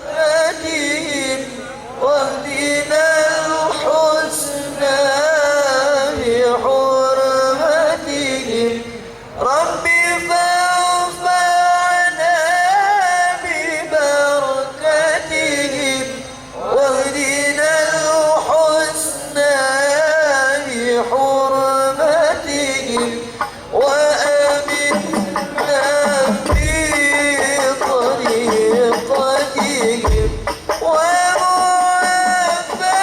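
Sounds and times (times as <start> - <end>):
person singing devotional song: 0.0 - 33.0.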